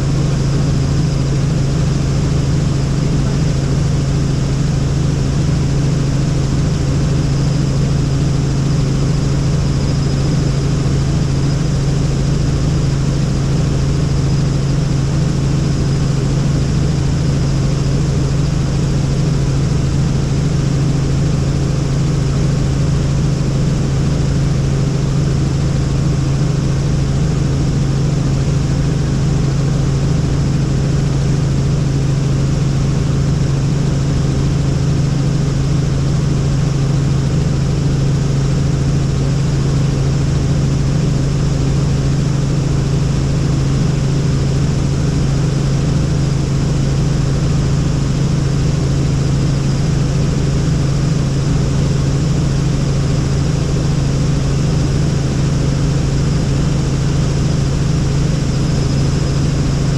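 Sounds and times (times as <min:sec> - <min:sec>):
helicopter in flight: 0:00.0 - 0:59.9.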